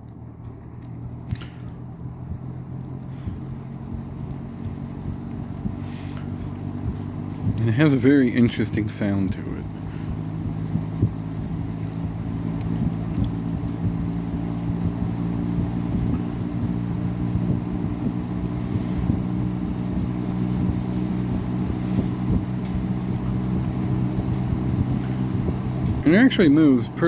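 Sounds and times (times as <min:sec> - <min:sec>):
box fan drone: 0:00.0 - 0:27.0
rush of moving air: 0:01.2 - 0:27.0.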